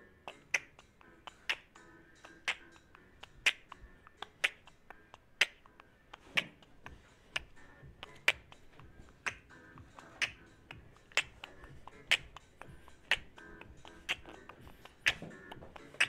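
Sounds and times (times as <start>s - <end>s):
snap-like click on the beat: 0.3s - 16.0s.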